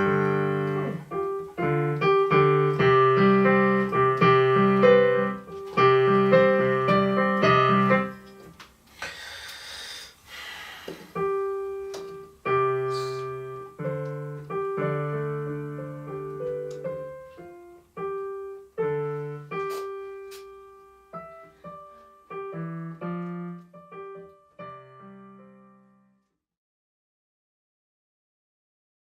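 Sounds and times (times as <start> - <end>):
piano chords: 0.0 - 8.9, 11.1 - 26.3.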